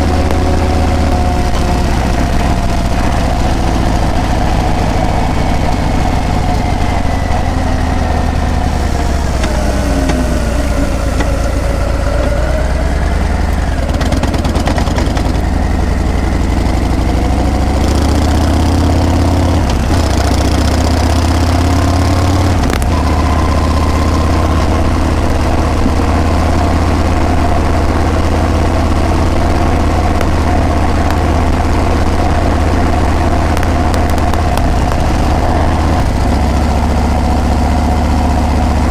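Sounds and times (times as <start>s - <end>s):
motorcycle exhaust cruising: 0.0s - 38.9s.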